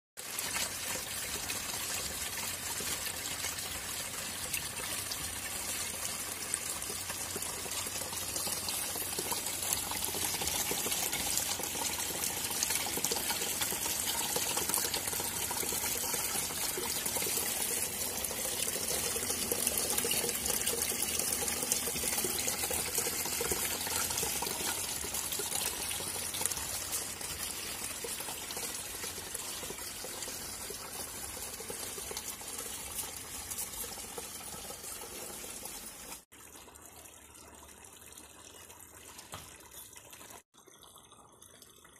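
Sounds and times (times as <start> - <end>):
water pouring and splashing: 0.2 - 41.9.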